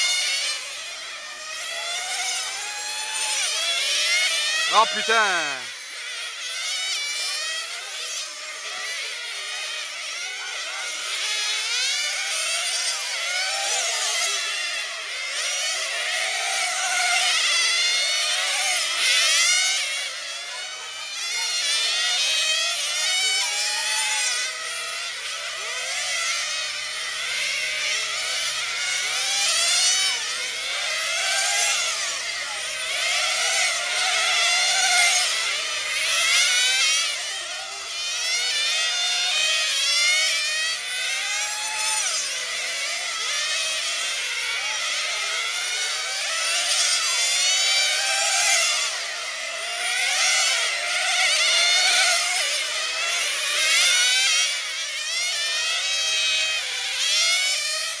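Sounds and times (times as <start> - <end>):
model car engines whining: 0.0 - 58.0.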